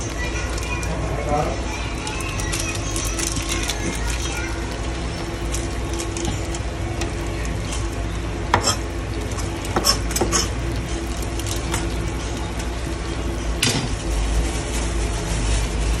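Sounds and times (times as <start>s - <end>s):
soup simmering: 0.0s - 13.6s
steady low hum: 0.0s - 16.0s.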